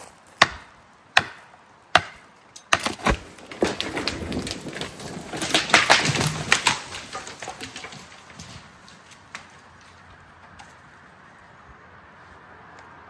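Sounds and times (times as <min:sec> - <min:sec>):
wood cracking and branches snapping: 0:00.0 - 0:10.9.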